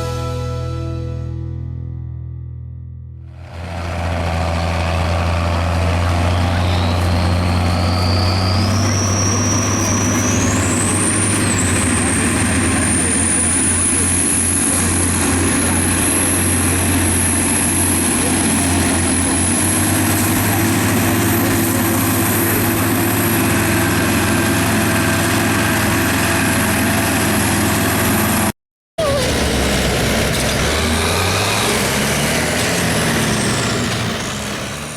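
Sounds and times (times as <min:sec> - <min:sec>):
tractor engine running: 0:03.3 - 0:34.9.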